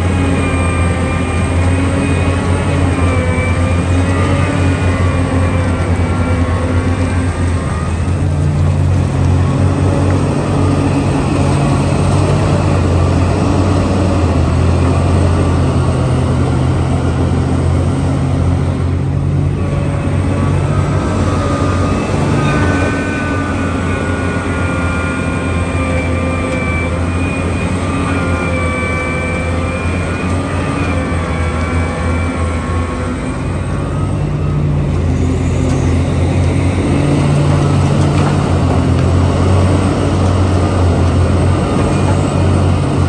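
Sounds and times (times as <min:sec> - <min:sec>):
construction machine engine droning: 0:00.0 - 0:43.0.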